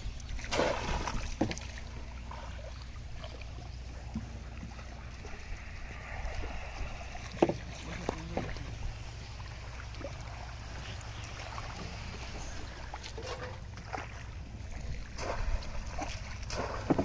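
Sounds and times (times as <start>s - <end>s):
steady low rumble: 0.0s - 17.0s
water splashing and trickling: 0.0s - 17.0s.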